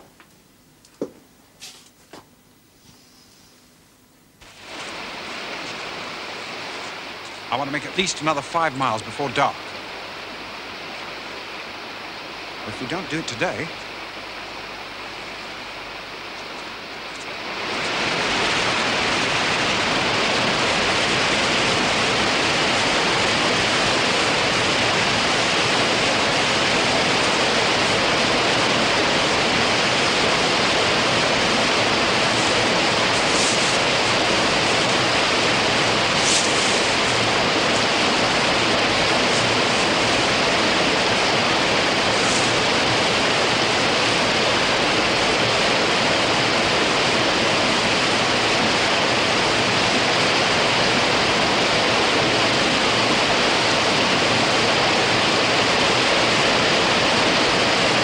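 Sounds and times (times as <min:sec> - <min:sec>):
loud steady rushing noise: 0:04.4 - 0:58.0.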